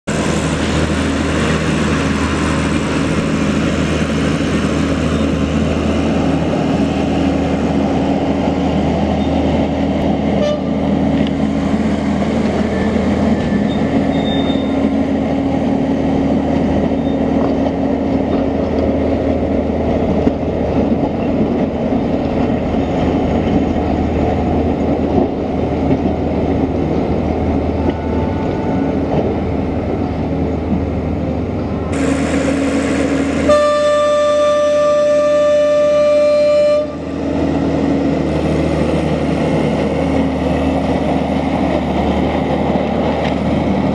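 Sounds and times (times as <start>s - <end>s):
tram running on track: 0.0s - 43.9s.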